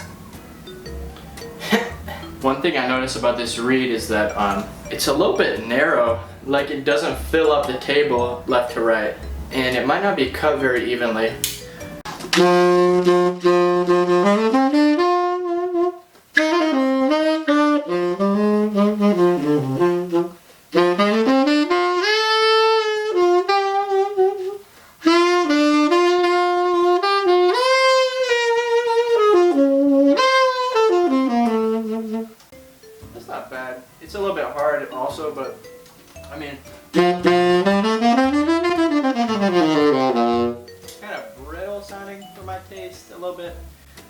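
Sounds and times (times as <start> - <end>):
solo tenor saxophone jazz line: 0.6 - 11.4, 12.3 - 32.8, 36.4 - 41.8.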